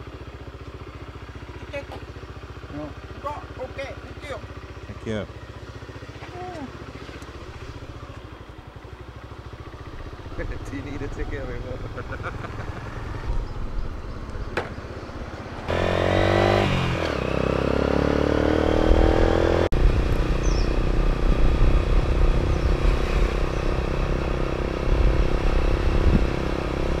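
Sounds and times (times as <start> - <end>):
motorbike engine: 0.0 - 27.0
road and wind rumble: 0.0 - 27.0.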